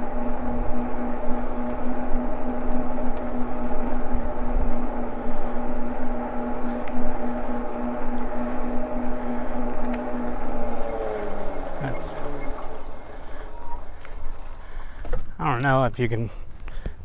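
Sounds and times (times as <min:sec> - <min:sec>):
electric bike droning hum: 0:00.0 - 0:17.0.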